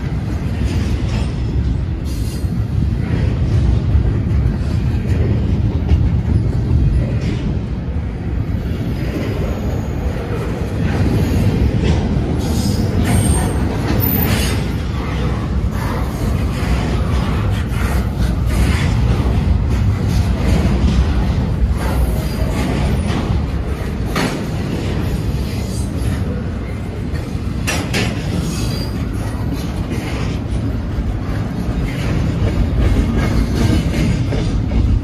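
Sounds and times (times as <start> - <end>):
train cars clanking: 0.0 - 35.0
train wheels rumbling on rail: 0.0 - 35.0.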